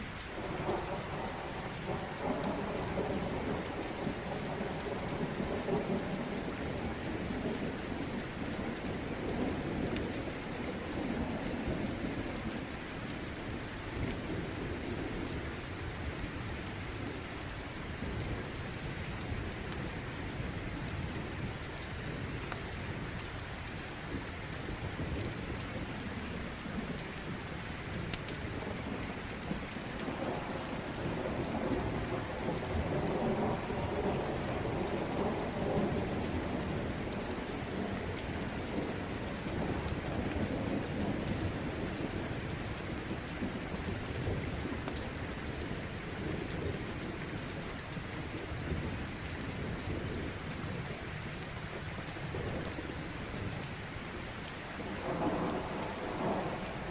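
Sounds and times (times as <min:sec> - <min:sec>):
steady rain: 0:00.0 - 0:56.9
low rumble of thunder: 0:00.2 - 0:56.9.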